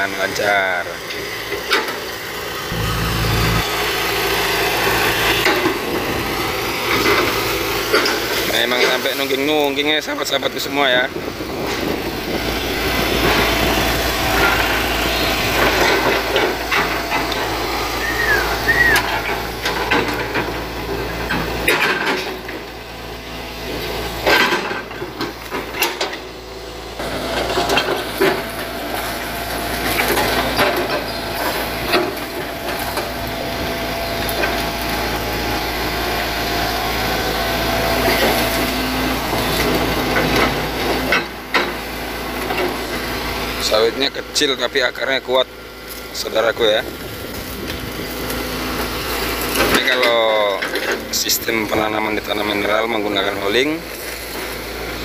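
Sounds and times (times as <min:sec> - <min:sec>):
excavator diesel engine under load: 0:00.0 - 0:55.0.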